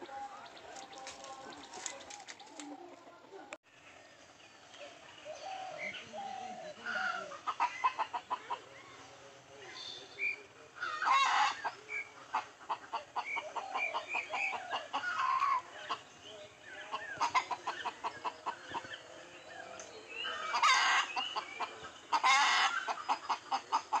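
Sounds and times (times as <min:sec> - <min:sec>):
chickens clucking: 0:00.0 - 0:03.6, 0:04.9 - 0:24.0.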